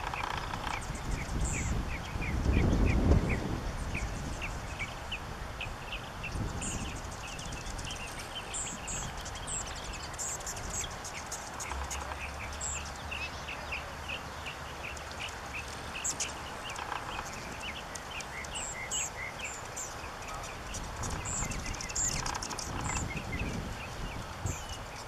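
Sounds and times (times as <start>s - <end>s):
hummingbird chirping: 0.0s - 25.0s.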